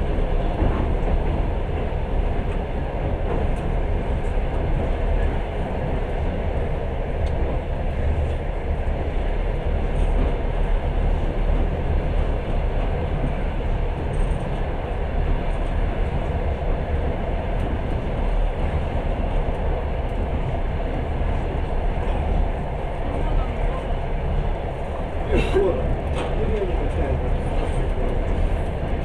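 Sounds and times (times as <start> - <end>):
train carriage rumbling: 0.0 - 29.0.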